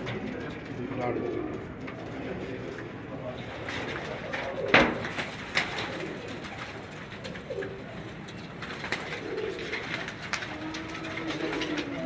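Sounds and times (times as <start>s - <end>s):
pigeons cooing softly: 0.0s - 12.0s.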